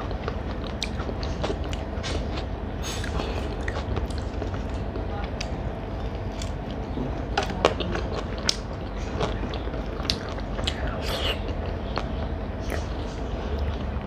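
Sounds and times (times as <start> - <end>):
person chewing: 0.0 - 14.0
steady low hum: 0.0 - 14.0.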